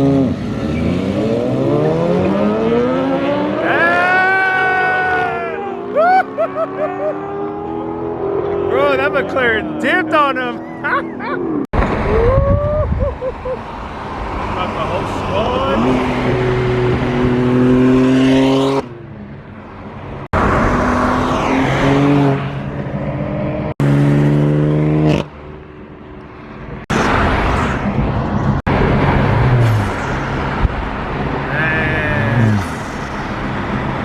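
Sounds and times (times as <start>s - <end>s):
car engines revving and passing: 0.0s - 12.2s, 13.2s - 34.0s.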